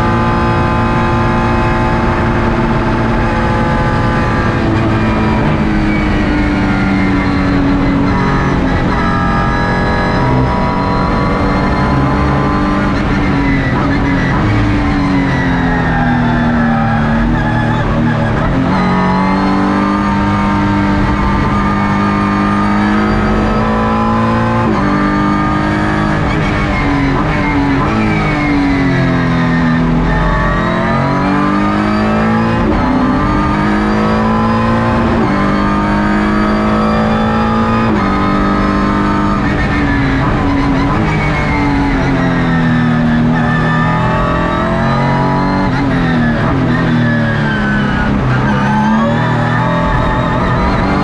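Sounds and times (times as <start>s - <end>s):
race car engine shifting gears: 0.0s - 51.0s.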